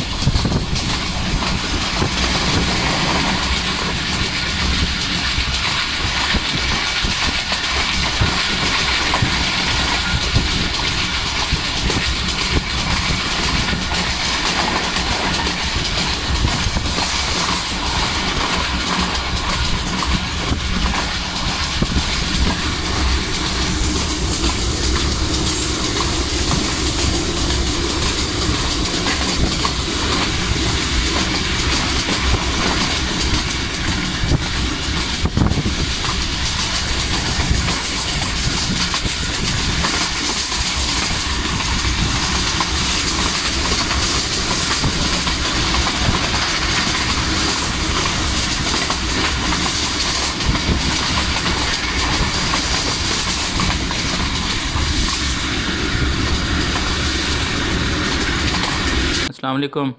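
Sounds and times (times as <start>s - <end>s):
clickety-clack of rail joints: 0.0s - 59.3s
train wheels rumbling on track: 0.0s - 59.3s.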